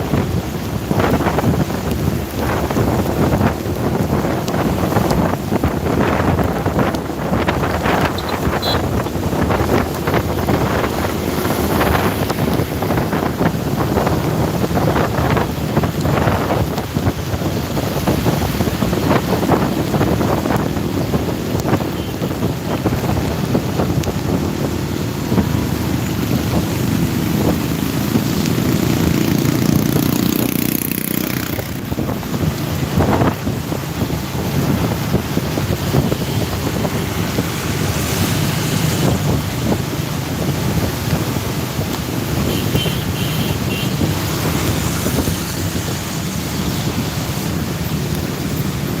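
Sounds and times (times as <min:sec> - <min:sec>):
tyres on wet road: 0:00.0 - 0:49.0
vehicle engine: 0:00.0 - 0:49.0
wind buffeting microphone: 0:00.0 - 0:49.0.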